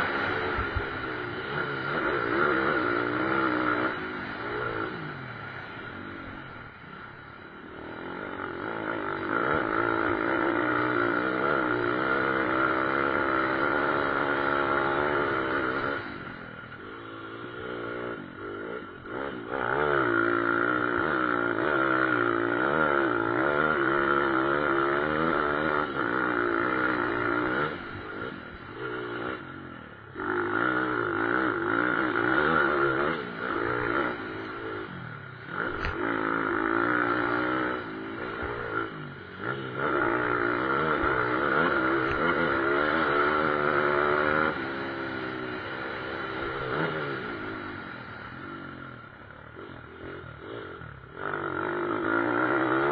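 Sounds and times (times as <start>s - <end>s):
pit bike engines revving: 0.0s - 52.9s.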